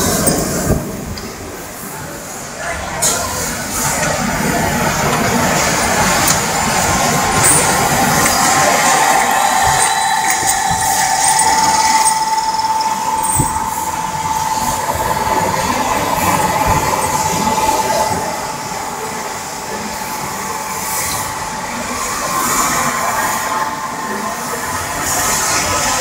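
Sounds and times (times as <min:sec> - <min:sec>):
machine running with high whine: 0:03.6 - 0:26.0.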